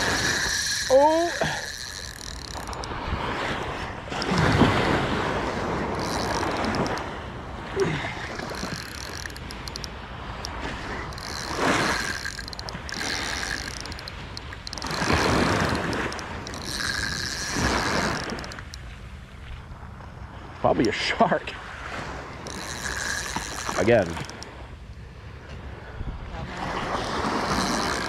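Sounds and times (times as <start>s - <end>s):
wind rumbling on microphone: 0.0s - 18.6s, 21.9s - 28.0s.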